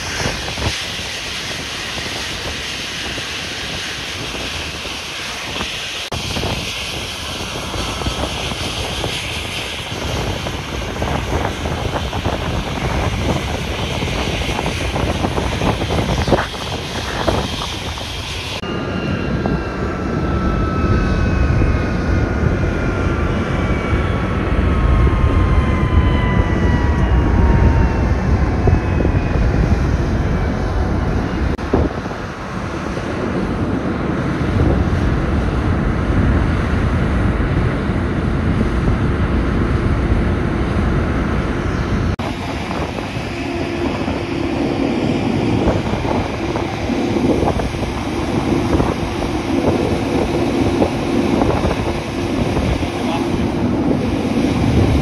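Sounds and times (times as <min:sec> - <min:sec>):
jet engines winding down: 0:00.0 - 0:55.0
wind on microphone: 0:00.0 - 0:55.0
low rumble: 0:05.6 - 0:55.0.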